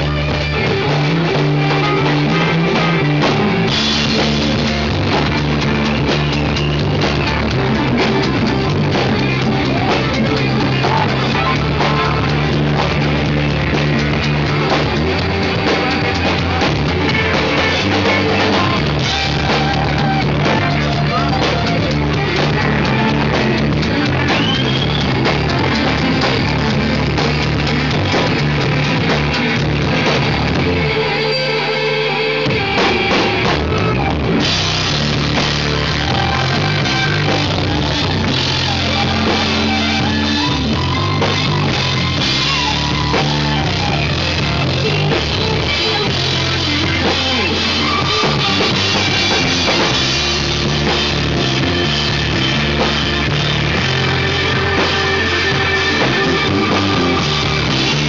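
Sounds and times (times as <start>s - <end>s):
bass guitar: 0.0s - 58.0s
drum kit: 0.0s - 58.0s
electric guitar: 0.0s - 58.0s
keyboard: 0.0s - 58.0s.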